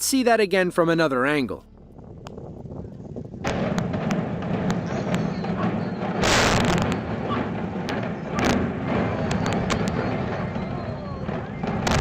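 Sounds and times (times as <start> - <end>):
low rumble: 1.5 - 12.0
demolition charges banging: 2.1 - 12.0.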